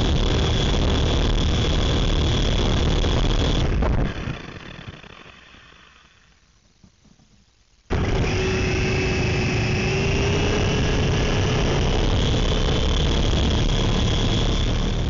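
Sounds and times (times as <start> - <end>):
mini helicopter motors whining: 0.0 - 6.4, 7.9 - 15.0.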